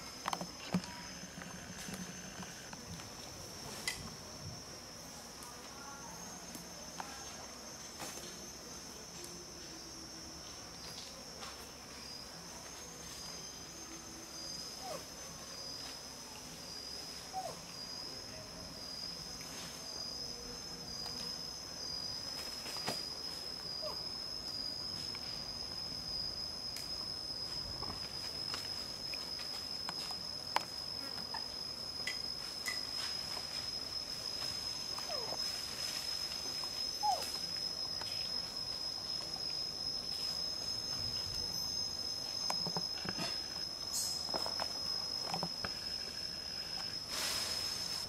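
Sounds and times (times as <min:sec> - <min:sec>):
insect drone: 0:00.0 - 0:48.0
short insect chirps: 0:00.0 - 0:48.0.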